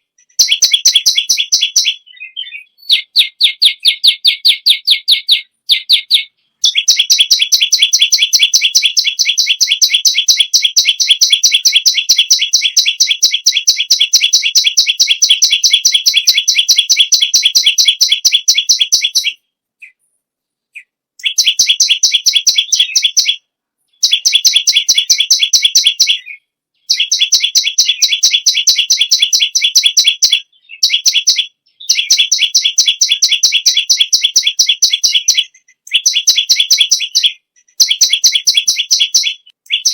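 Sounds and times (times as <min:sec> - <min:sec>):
bird rapid chattering song: 0:00.0 - 0:20.1, 0:20.7 - 0:39.9.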